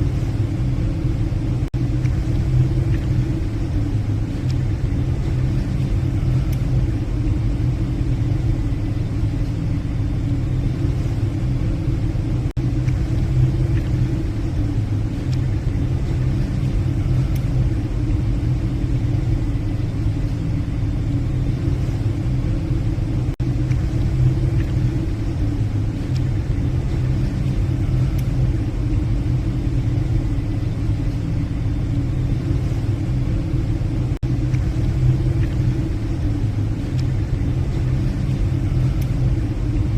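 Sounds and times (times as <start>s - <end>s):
deep hum: 0.0s - 39.9s.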